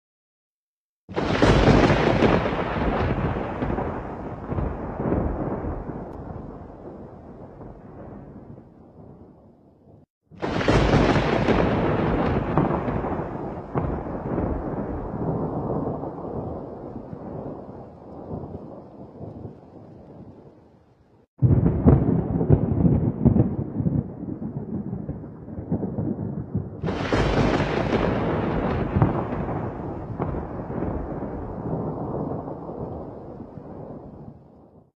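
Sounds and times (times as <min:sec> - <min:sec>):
thunder rumbling and cracking: 0:01.1 - 0:09.6, 0:10.3 - 0:20.6, 0:21.4 - 0:34.9.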